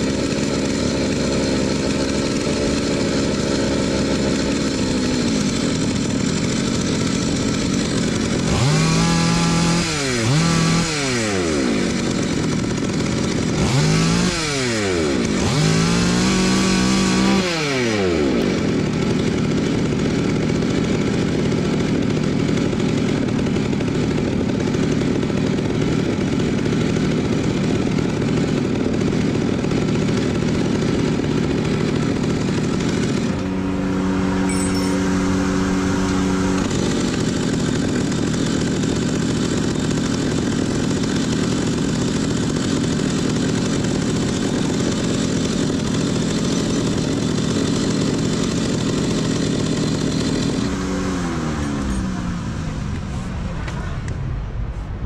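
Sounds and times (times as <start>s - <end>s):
chainsaw engine running: 0.0s - 54.4s.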